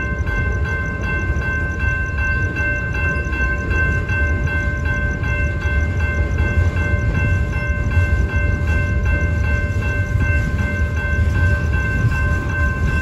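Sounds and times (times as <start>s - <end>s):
high ringing: 0.0s - 13.0s
train wheels rumbling on rail: 0.0s - 13.0s.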